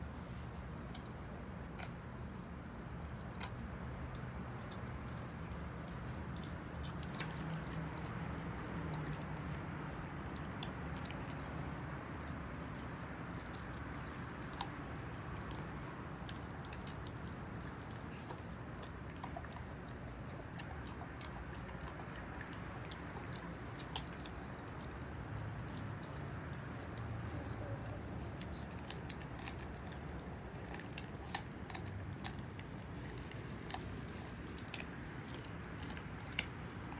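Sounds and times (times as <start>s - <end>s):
puppy chewing raw chicken: 0.0s - 36.9s
steady background noise: 0.0s - 36.9s.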